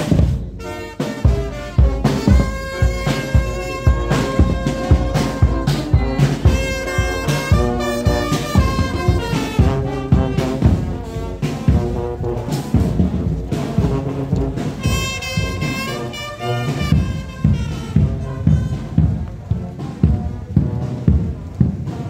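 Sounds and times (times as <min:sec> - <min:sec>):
bass drum beat: 0:00.0 - 0:22.0
marching brass band playing: 0:00.0 - 0:22.0.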